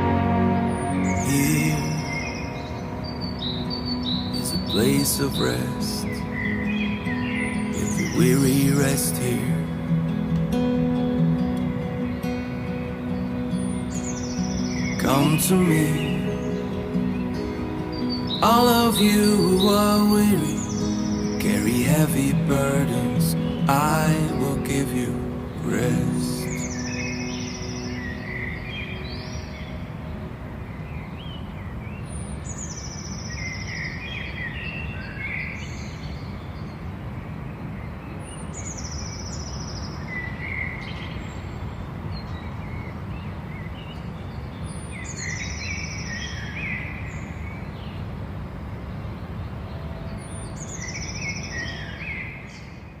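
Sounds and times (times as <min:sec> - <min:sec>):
garden birds singing: 0:00.0 - 0:53.0.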